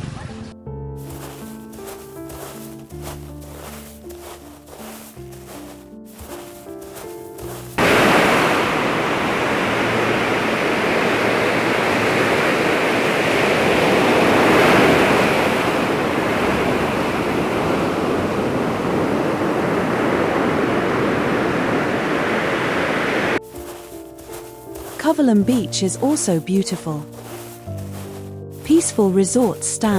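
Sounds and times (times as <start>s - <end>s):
sea waves breaking on beach: 1.1s - 29.9s.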